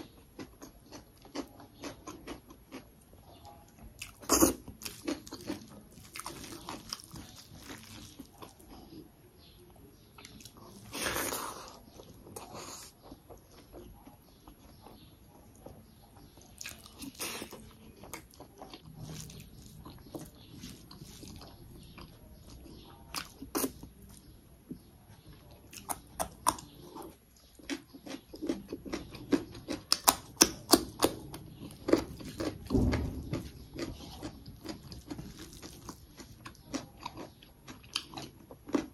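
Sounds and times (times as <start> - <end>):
wet chewing mouth sounds: 0.0 - 9.1, 10.2 - 38.9.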